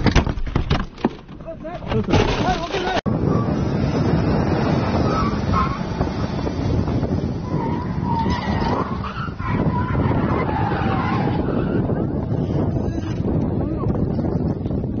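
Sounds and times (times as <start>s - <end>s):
vehicle engine driving on dirt: 1.3s - 15.0s
wind buffeting microphone: 1.4s - 15.0s.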